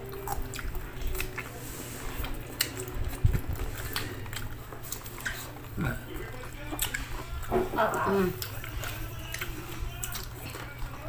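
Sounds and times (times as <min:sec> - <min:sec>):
chewing and mouth smacks: 0:00.0 - 0:11.0
low steady hum: 0:00.0 - 0:11.0.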